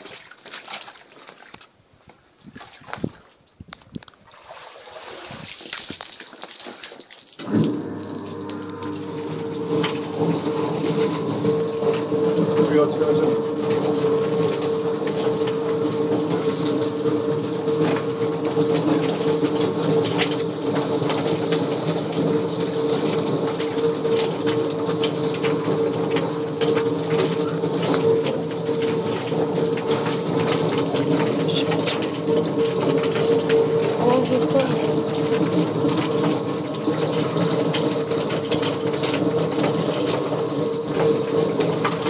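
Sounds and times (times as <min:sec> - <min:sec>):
electric motor hum: 0:07.4 - 0:42.0.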